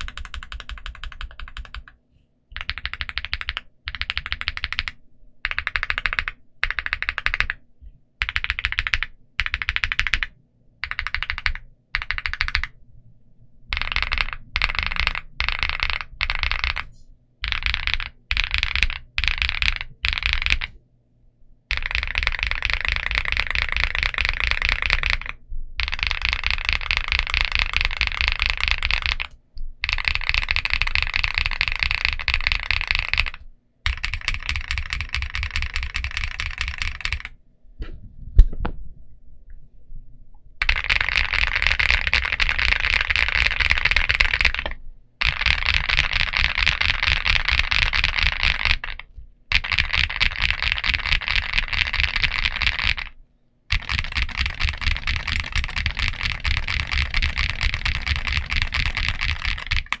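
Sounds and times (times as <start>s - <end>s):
mechanical keyboard typing: 0.0s - 2.0s, 2.6s - 7.6s, 8.2s - 12.8s, 13.7s - 20.8s, 21.7s - 37.4s, 40.6s - 60.0s.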